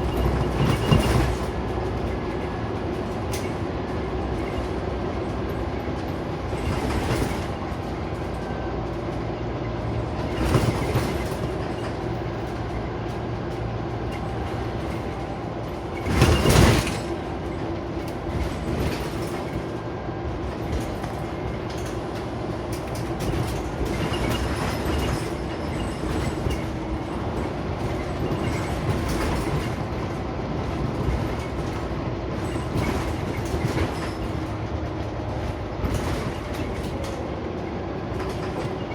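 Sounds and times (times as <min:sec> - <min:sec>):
bus engine and road noise: 0:00.0 - 0:38.9
bus jolts: 0:00.0 - 0:38.9.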